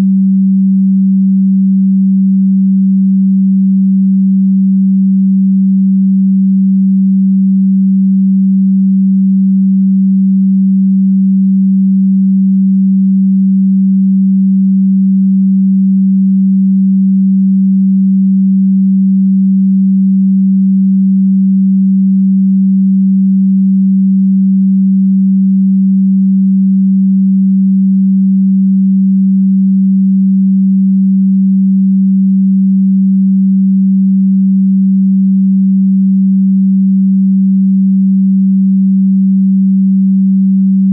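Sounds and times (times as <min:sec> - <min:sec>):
low sine wave tone: 0:00.0 - 0:40.9.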